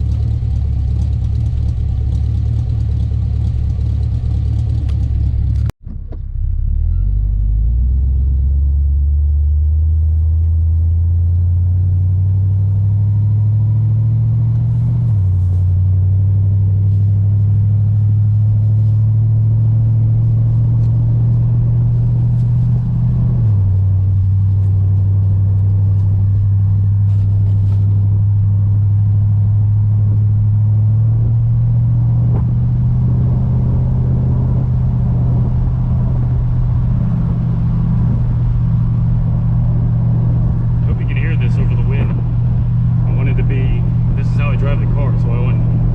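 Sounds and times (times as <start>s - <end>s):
car exhaust rumble accelerating: 0.0s - 45.9s.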